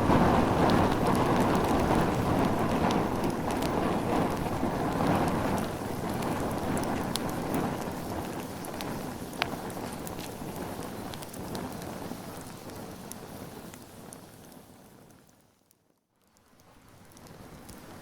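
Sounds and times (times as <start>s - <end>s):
rush of flames: 0.0s - 15.4s
fire crackling and popping: 0.0s - 18.0s.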